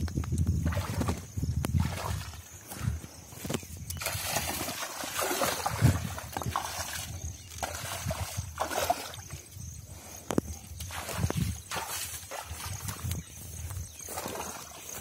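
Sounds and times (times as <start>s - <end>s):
muddy water sloshing and splashing: 0.5s - 9.9s, 10.6s - 15.0s.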